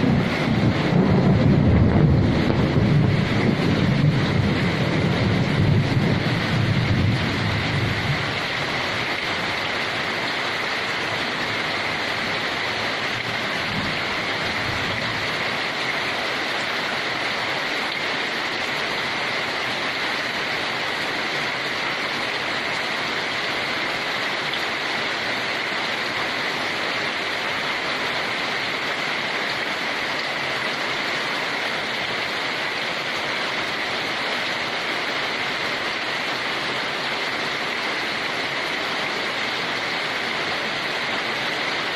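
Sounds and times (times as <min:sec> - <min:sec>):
heavy rain hiss: 0:00.0 - 0:41.9.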